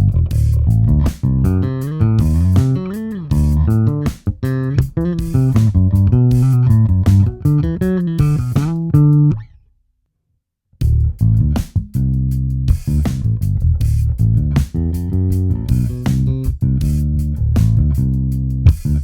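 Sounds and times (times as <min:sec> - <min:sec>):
electric bass plucked notes: 0:00.0 - 0:09.5, 0:10.8 - 0:19.0.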